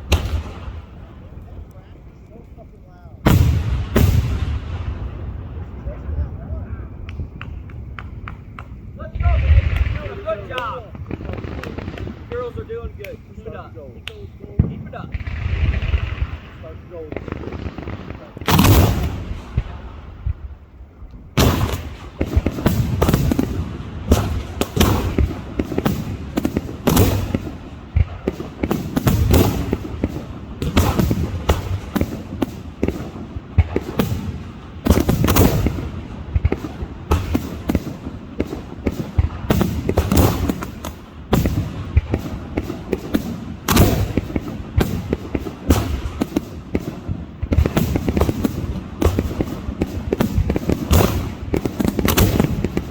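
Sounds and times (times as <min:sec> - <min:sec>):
fireworks shells bursting: 0:07.0 - 0:20.4, 0:21.1 - 0:52.9.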